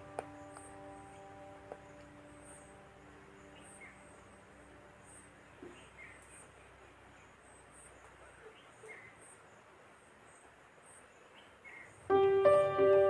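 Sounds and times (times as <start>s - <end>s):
faint high insect chirps: 0.0s - 12.6s.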